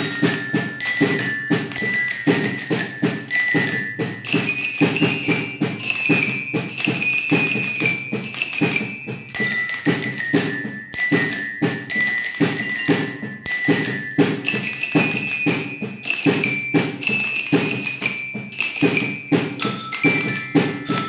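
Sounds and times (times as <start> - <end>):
glockenspiel melody: 0.0 - 21.0.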